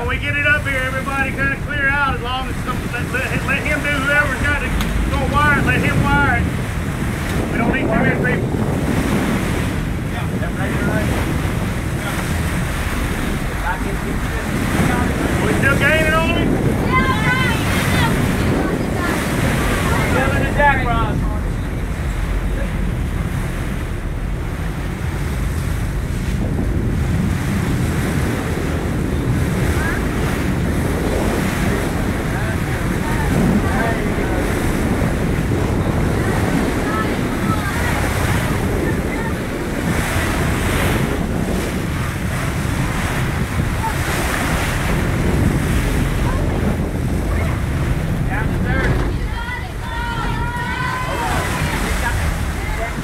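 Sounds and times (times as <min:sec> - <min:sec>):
boat engine low rumble: 0:00.0 - 0:53.0
water rushing around boat: 0:00.0 - 0:53.0
wind buffeting microphone: 0:00.0 - 0:53.0.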